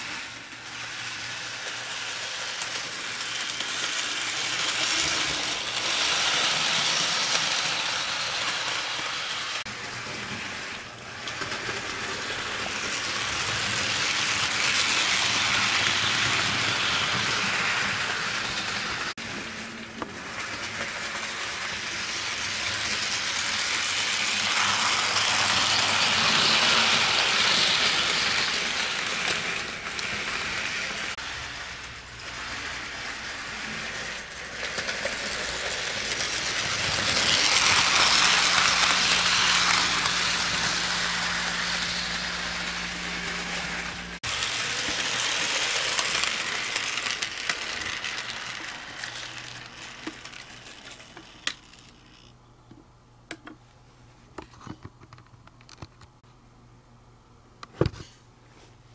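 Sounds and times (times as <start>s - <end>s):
model train rattling on track: 0.0s - 19.1s, 20.2s - 52.3s.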